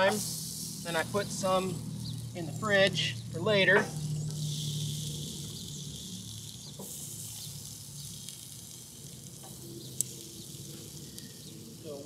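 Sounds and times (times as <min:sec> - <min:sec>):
chicken sizzling on grill: 0:00.0 - 0:12.0.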